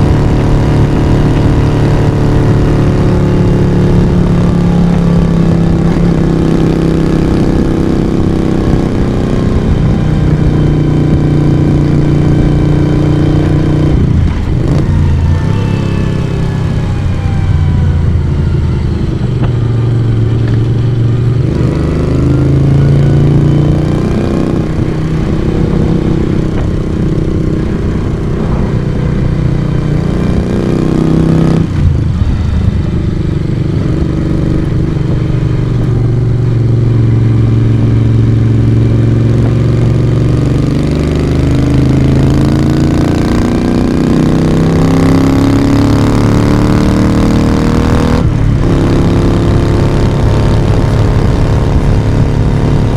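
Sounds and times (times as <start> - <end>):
motorcycle engine and exhaust: 0.0 - 52.9.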